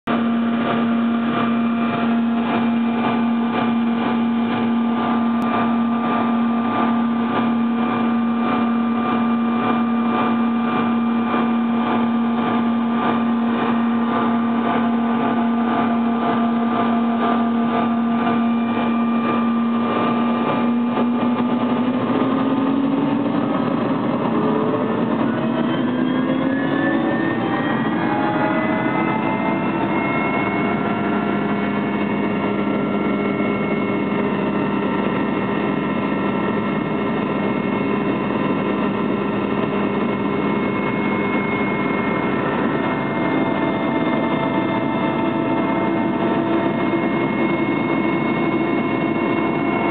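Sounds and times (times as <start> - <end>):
helicopter engine and rotor: 0.1 - 49.9.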